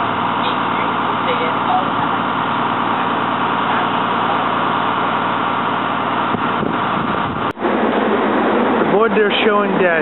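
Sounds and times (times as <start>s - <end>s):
train mechanical drone: 0.0s - 10.0s.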